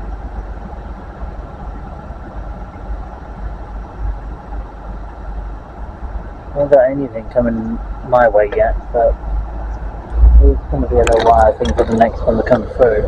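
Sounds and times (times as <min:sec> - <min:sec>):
faint constant whine: 0:00.0 - 0:13.0
low engine rumble: 0:00.0 - 0:13.0.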